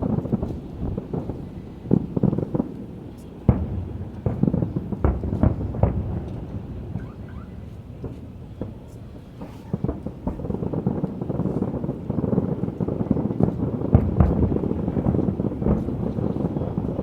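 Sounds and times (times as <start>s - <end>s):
fireworks booms and crackles: 0.0s - 17.0s.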